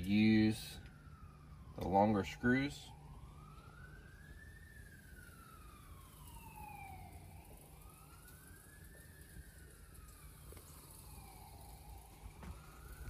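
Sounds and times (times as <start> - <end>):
faint wailing siren: 0.0 - 13.0
low steady hum: 0.0 - 13.0.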